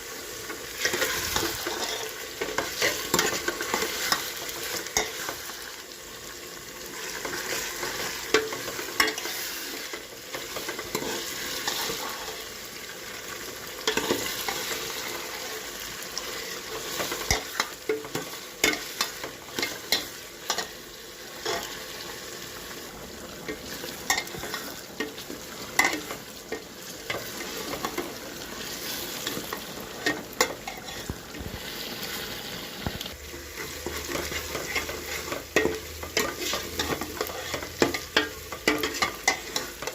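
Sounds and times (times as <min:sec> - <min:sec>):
food sizzling in a pan: 0:00.0 - 0:39.9
spoon scraping and knocking pan: 0:00.6 - 0:05.6, 0:07.0 - 0:12.2, 0:13.8 - 0:15.6, 0:16.3 - 0:22.1, 0:23.4 - 0:32.2, 0:32.8 - 0:39.9.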